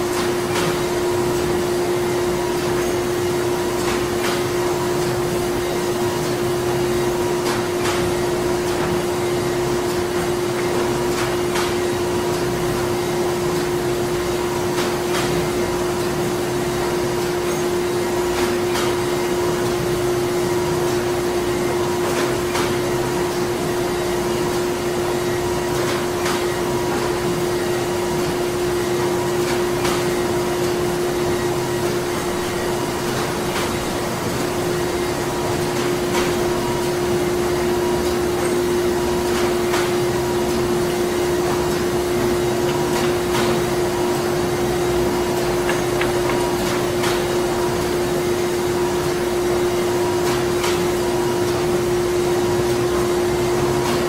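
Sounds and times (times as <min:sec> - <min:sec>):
machinery hum and whirr: 0:00.0 - 0:54.0.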